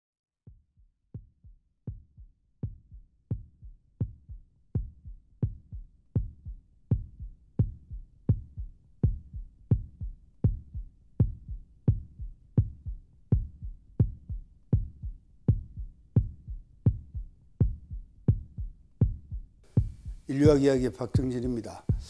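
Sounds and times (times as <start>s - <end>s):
heartbeat-like low thudding pulse: 0.5s - 20.6s.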